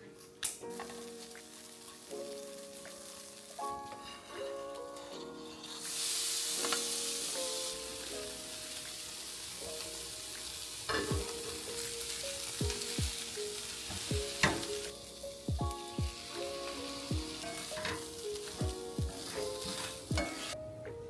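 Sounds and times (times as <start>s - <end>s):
soft lo-fi music: 0.0s - 21.0s
rice sizzling in a frying pan: 0.6s - 20.6s.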